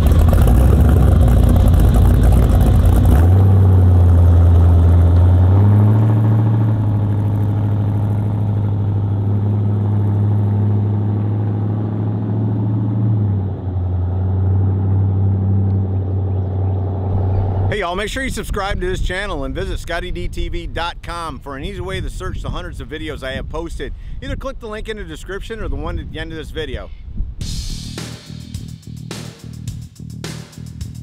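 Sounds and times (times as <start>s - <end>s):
truck engine exhaust rumble: 0.0s - 24.4s, 27.1s - 31.0s.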